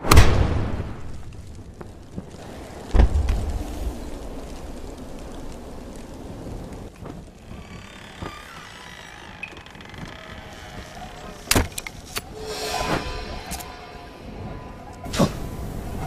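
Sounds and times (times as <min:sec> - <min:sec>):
low wind-like rush: 0:00.6 - 0:16.0.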